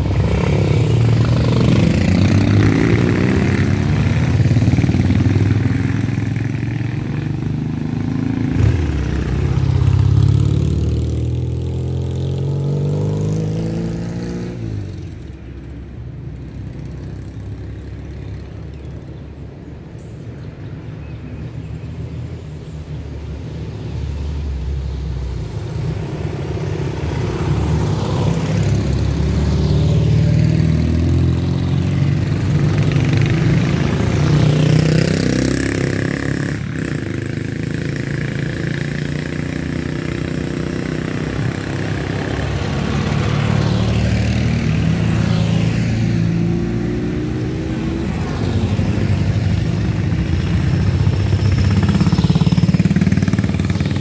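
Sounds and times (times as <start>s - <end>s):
motorcycle engine revving: 0.0s - 15.4s, 25.8s - 54.0s.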